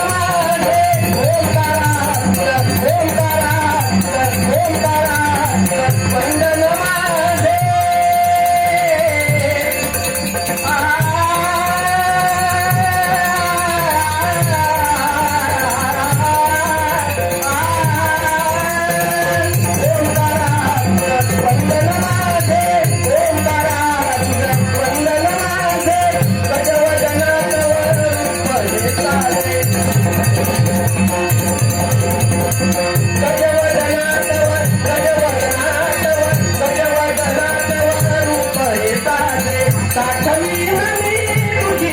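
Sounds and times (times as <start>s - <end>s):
jingling rattle percussion: 0.0s - 41.9s
man singing: 0.0s - 41.9s.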